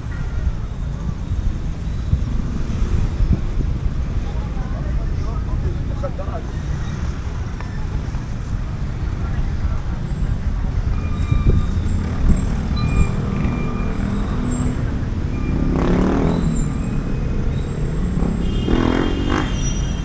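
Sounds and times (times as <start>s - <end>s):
passing vehicles rumble: 0.0s - 20.0s.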